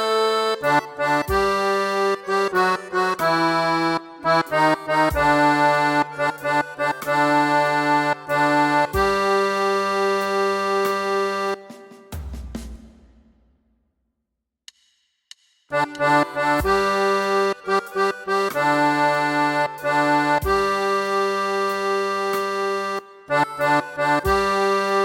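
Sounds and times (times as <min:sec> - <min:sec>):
reedy hymn tune in held chords: 0:00.0 - 0:12.2, 0:15.7 - 0:25.0.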